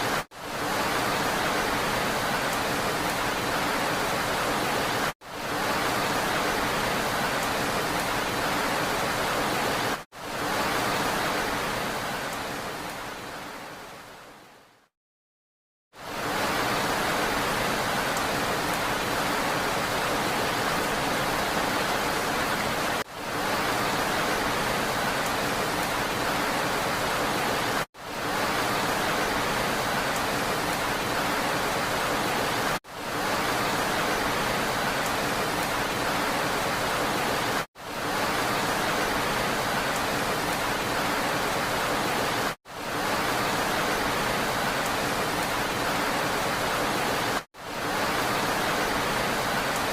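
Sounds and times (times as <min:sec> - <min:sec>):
rain hissing: 0:00.0 - 0:14.4, 0:16.0 - 0:49.9.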